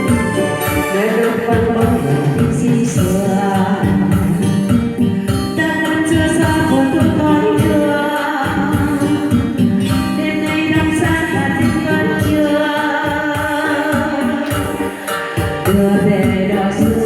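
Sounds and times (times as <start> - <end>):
instrumental accompaniment: 0.0 - 17.0
person singing: 0.0 - 17.0.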